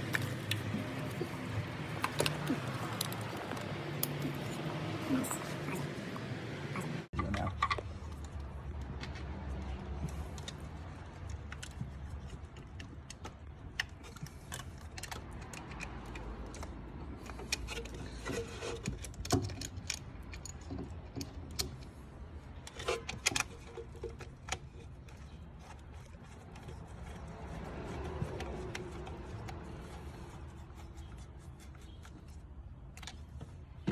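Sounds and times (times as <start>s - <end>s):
tools and plastic parts clinking: 0.0s - 5.8s, 10.0s - 33.9s.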